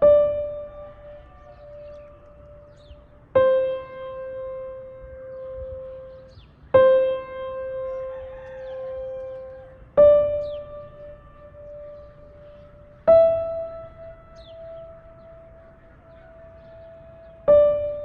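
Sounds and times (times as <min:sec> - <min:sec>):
soft piano notes: 0:00.0 - 0:18.0.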